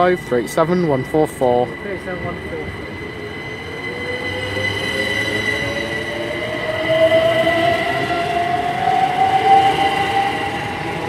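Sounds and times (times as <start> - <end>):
steady high tone: 0.0 - 11.0
train rumbling past: 0.0 - 11.0
train traction motors whining: 0.0 - 11.0.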